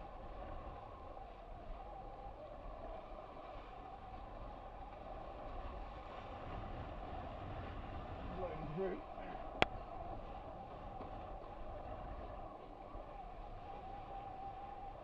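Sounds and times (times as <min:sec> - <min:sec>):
water rushing past a boat: 0:00.0 - 0:15.0.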